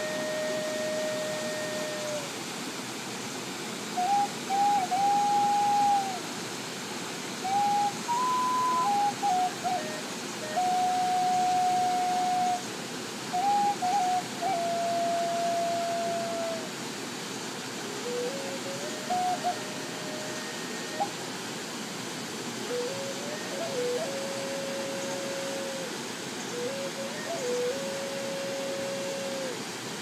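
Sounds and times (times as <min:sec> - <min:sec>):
flute playing slow melody: 0:00.0 - 0:02.4, 0:03.9 - 0:06.4, 0:07.4 - 0:16.8, 0:17.8 - 0:21.3, 0:22.5 - 0:30.0
waterfall rushing: 0:00.0 - 0:30.0.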